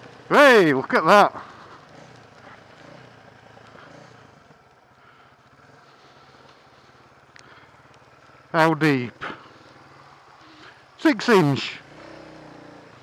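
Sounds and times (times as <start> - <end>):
faint motorcycle engine at low revs: 0.0 - 13.0.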